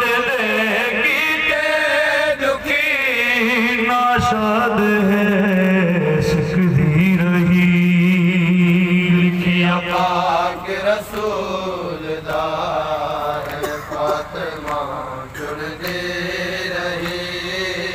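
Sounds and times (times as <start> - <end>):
man chanting through loudspeaker: 0.0 - 17.9
men's voices: 0.0 - 17.9.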